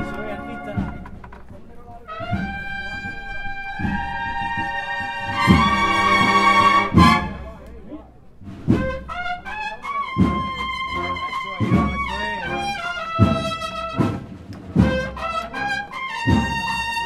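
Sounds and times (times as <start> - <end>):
bugle melody: 0.0 - 8.0, 8.6 - 17.0
drum strokes: 0.0 - 17.0.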